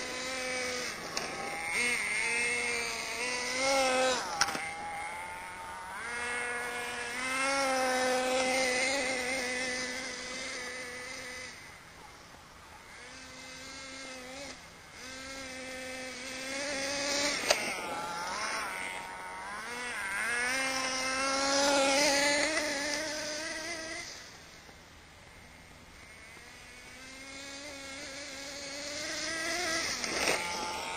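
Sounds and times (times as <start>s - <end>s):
model truck engine revving: 0.0s - 24.7s, 25.3s - 30.9s.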